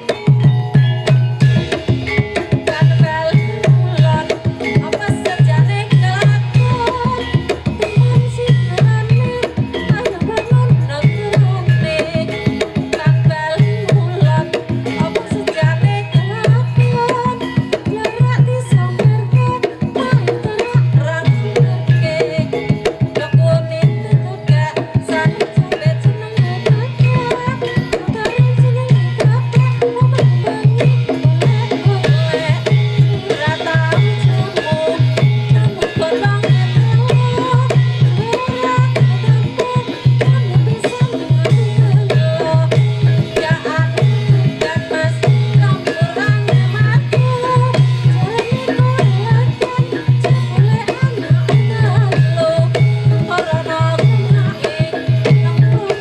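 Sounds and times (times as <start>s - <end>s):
hand drums beating fast: 0.0s - 56.0s.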